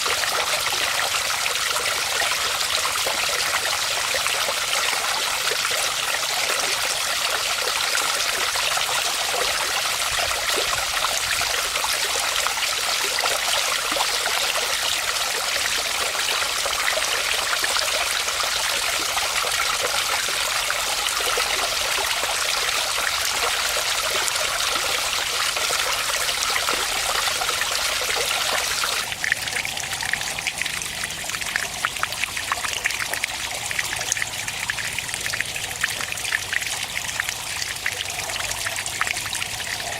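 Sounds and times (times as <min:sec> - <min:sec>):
spattery water trickle: 0:00.0 - 0:39.9.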